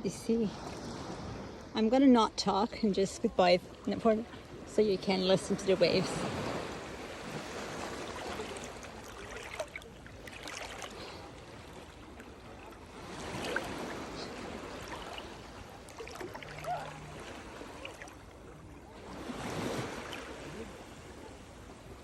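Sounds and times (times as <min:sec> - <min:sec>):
small waves lapping at shore: 0:00.0 - 0:22.0.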